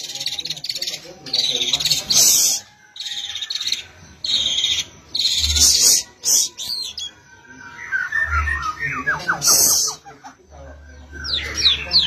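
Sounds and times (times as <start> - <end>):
songbird trilling: 0.0 - 12.0.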